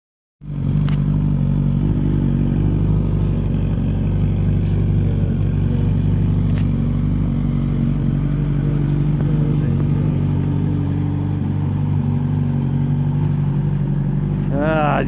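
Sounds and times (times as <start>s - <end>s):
motorcycle engine idling: 0.4s - 15.0s.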